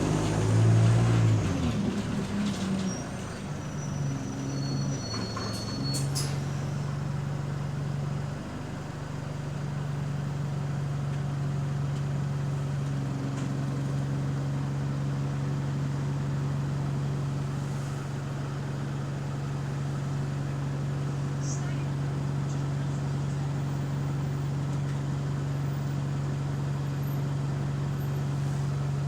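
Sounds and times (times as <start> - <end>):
bus engine droning: 0.0 - 29.0.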